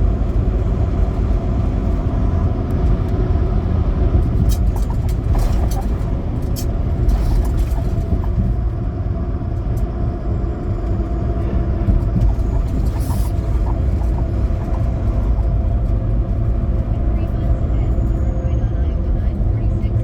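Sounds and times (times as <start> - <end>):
road noise: 0.0 - 20.0
truck engine rumble: 0.0 - 20.0.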